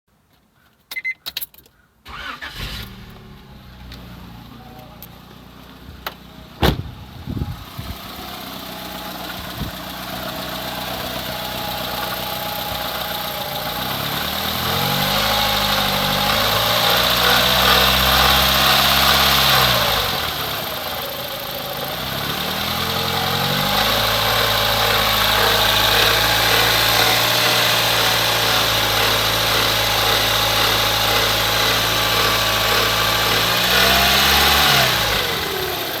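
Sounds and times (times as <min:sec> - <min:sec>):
car engine revving: 0:02.1 - 0:36.0.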